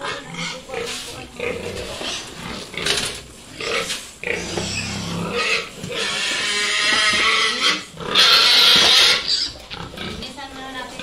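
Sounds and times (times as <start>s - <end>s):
pigs squealing and grunting: 0.0s - 10.4s.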